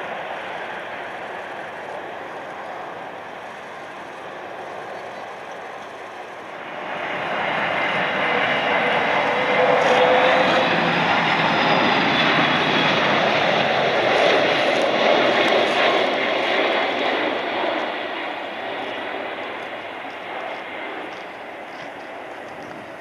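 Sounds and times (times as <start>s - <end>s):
airliner jet noise: 0.0s - 23.0s.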